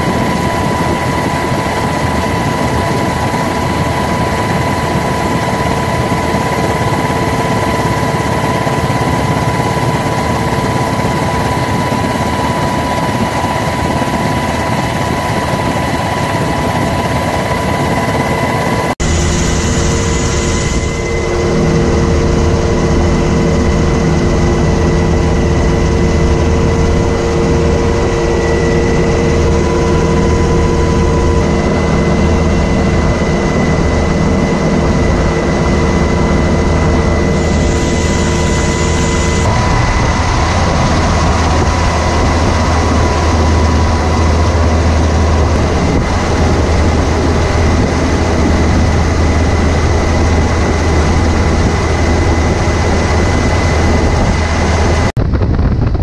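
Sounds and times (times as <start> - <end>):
aircraft engine drone: 0.0 - 56.0
helicopter hum: 0.0 - 56.0.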